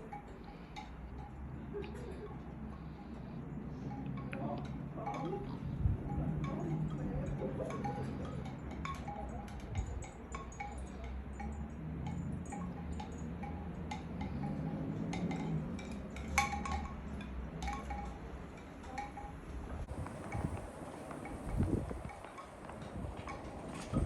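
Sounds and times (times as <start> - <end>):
low steady rumble: 0.0 - 22.2
chimes tinkling: 0.0 - 22.6.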